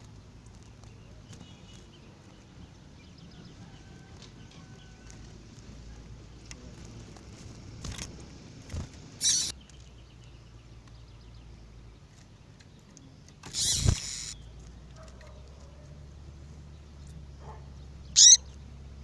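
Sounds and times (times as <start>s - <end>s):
bird calls: 0.0s - 6.7s, 8.7s - 16.0s, 16.7s - 18.8s.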